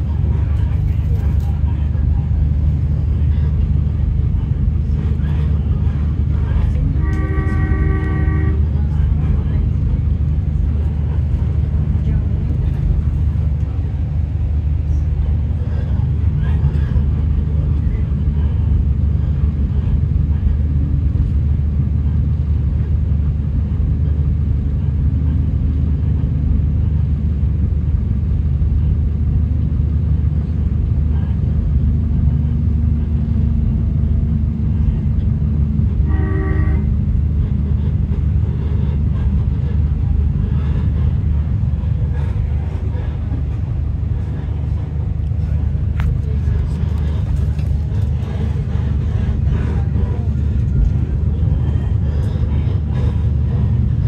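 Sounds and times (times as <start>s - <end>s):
railcar low rumble: 0.0s - 54.0s.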